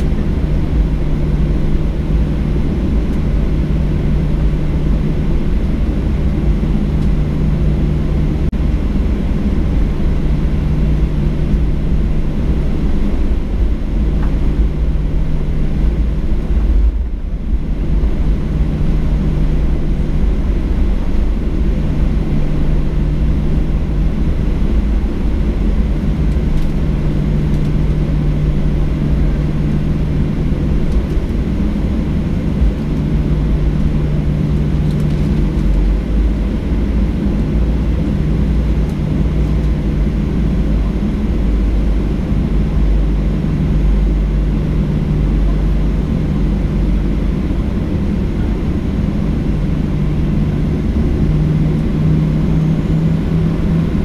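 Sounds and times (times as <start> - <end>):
constant low hum: 0.0 - 54.0
jet engine low rumble: 0.0 - 54.0.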